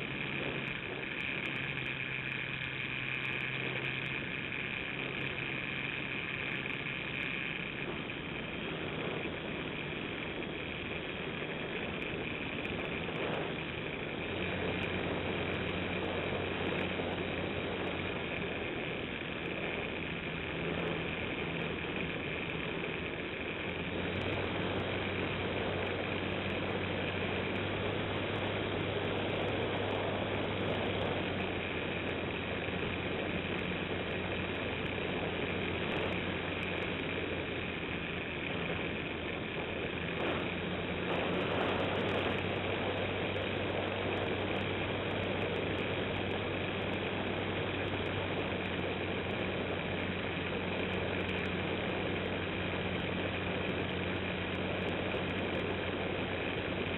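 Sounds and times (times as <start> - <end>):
model airplane motor whine: 0.0 - 56.9
wind on microphone: 7.8 - 56.8.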